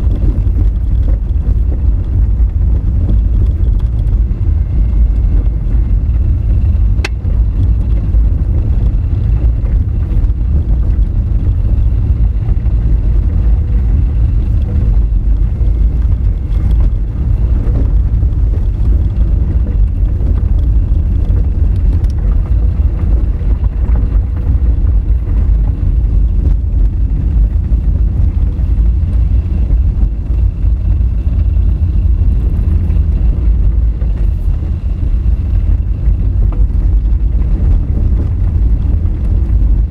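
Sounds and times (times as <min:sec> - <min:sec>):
tyres rumbling on gravel road: 0:00.0 - 0:39.9.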